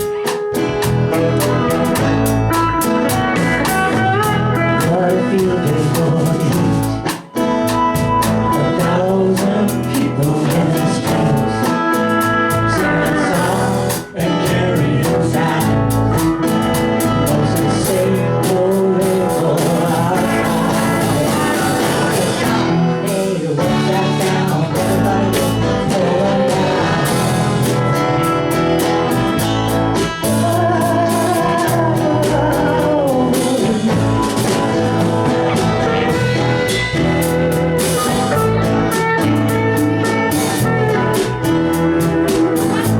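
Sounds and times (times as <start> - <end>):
drum kit: 0.0 - 42.9
guitar: 0.0 - 42.9
person singing: 0.0 - 42.9.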